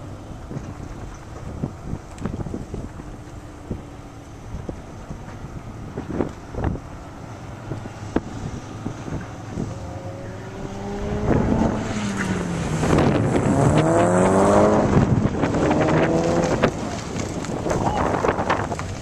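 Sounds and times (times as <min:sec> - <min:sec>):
sports car engine revving: 0:00.0 - 0:19.0.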